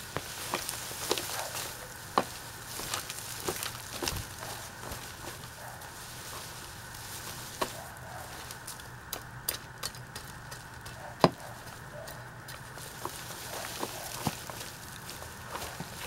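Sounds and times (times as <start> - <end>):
pruning shears snipping: 0.0 - 16.0.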